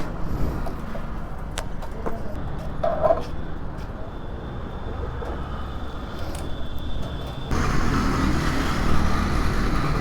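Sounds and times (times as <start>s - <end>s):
road traffic engines: 0.0s - 10.0s.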